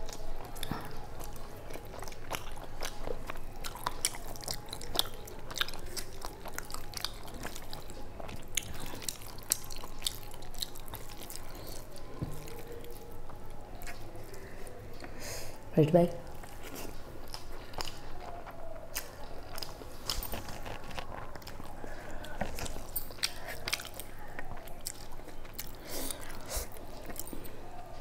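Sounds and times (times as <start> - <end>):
wet chewing: 0.0 - 15.7, 16.3 - 28.0.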